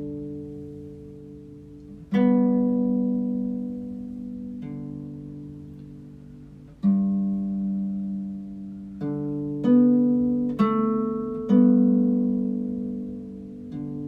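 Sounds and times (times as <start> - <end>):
harp plucked notes: 0.0 - 14.0.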